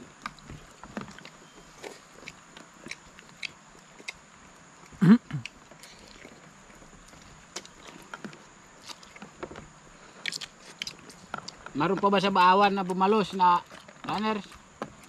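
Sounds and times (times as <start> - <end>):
chewing noises: 0.0 - 15.0.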